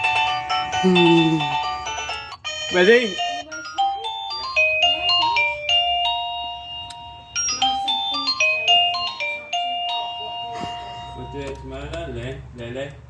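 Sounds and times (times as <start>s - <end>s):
electronic doorbell chime melody: 0.0s - 11.9s.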